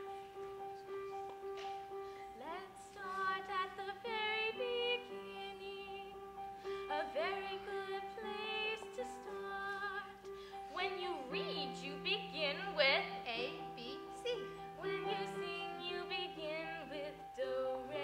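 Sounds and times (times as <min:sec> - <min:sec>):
woman singing: 0:02.4 - 0:06.2, 0:06.9 - 0:18.0.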